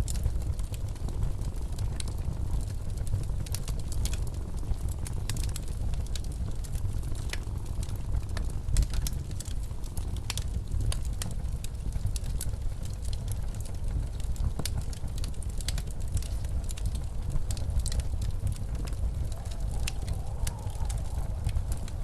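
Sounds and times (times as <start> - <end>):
wood fire crackling: 0.0 - 22.0
blizzard wind rumble: 0.1 - 22.0.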